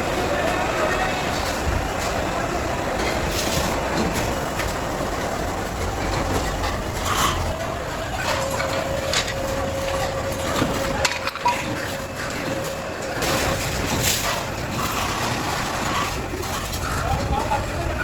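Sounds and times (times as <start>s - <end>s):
steady rushing background: 0.0s - 18.0s.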